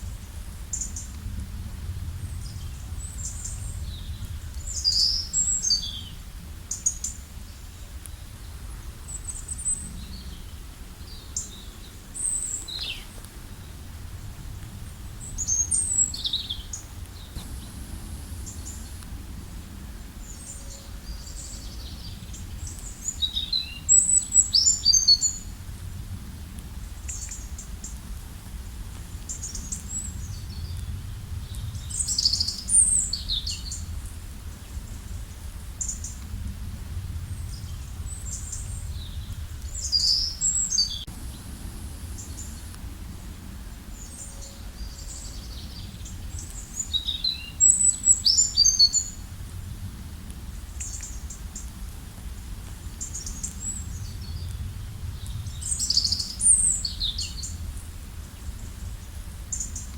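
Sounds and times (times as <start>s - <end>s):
steady low rumble: 0.0s - 24.5s, 25.3s - 59.9s
songbirds twittering: 2.0s - 25.6s, 28.6s - 36.3s, 37.2s - 50.0s, 50.6s - 51.8s, 52.9s - 59.9s.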